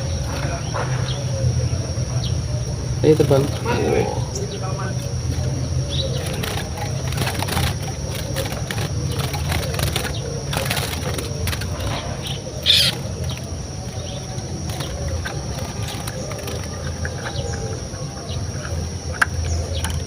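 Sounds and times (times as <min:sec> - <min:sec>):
small birds fluttering: 0:02.9 - 0:20.0.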